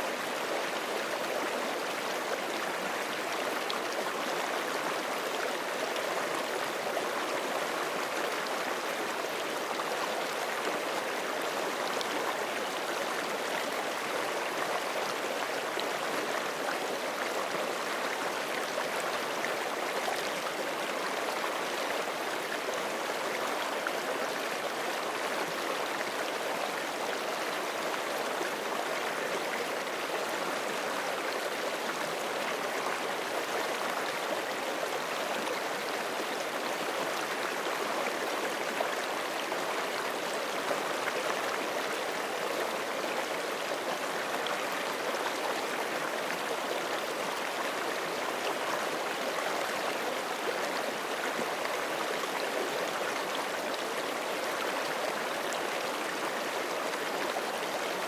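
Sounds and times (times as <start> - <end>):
creek flowing over stones: 0.0 - 58.0.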